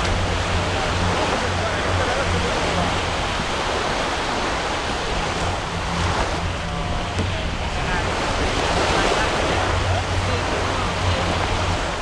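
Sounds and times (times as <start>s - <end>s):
small waves breaking on sand: 0.0s - 12.0s
wind buffeting microphone: 0.0s - 12.0s.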